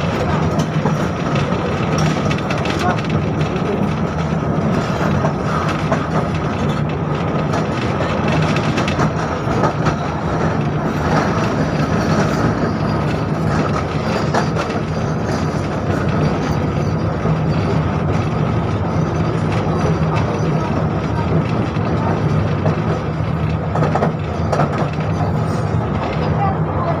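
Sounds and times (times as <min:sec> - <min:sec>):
tram wheels rumbling on rail: 0:00.0 - 0:27.0.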